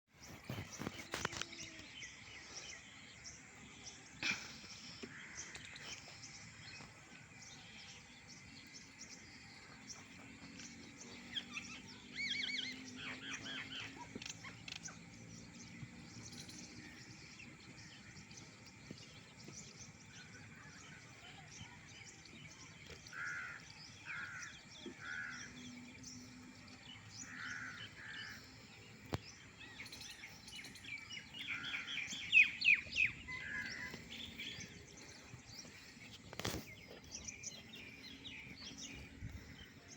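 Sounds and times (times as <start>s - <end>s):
birds calling: 0.1s - 39.9s.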